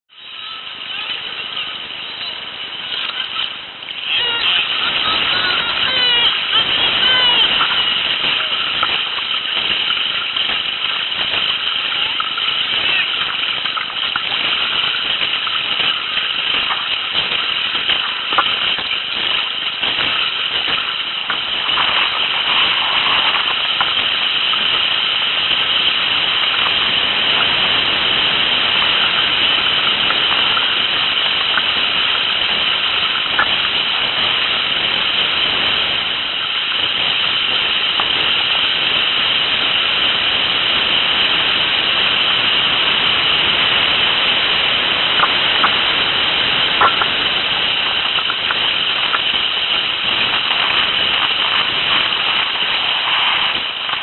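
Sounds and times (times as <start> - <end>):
whitewater rushing: 0.1 - 54.0.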